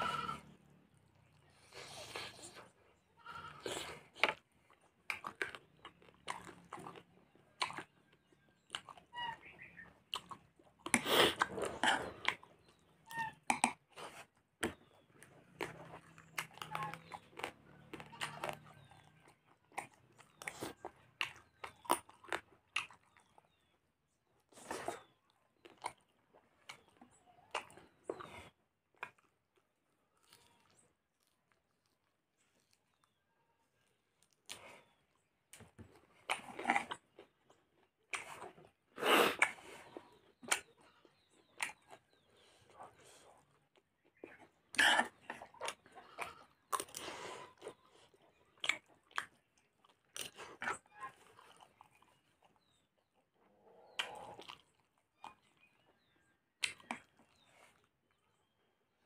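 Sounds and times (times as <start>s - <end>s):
person chewing and smacking: 0.3s - 53.3s, 53.9s - 58.6s.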